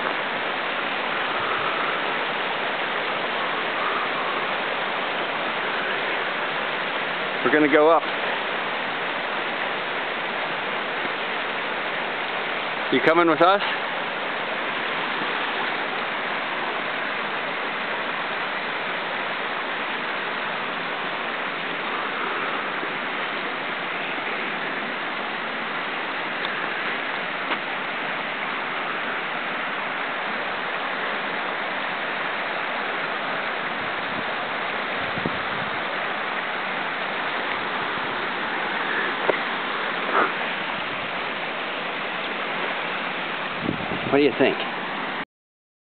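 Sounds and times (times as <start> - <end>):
running water rushing: 0.0 - 45.2.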